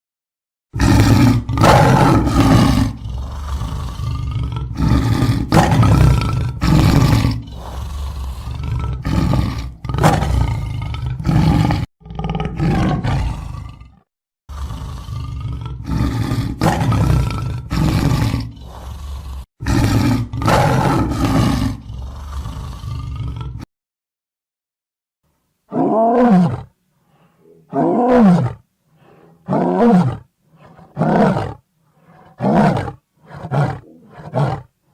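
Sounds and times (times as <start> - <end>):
tiger roaring and growling: 0.8 - 23.7, 25.7 - 34.8.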